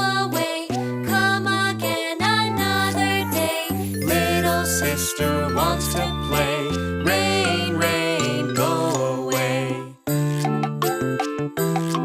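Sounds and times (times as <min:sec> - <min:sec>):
person singing: 0:00.0 - 0:10.0
jingly backing track: 0:00.0 - 0:12.0.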